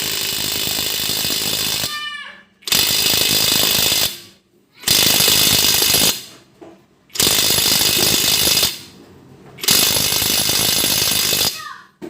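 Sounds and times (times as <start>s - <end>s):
impact wrench hammering: 0.0s - 2.0s, 2.6s - 6.4s, 7.1s - 9.0s, 9.6s - 11.6s.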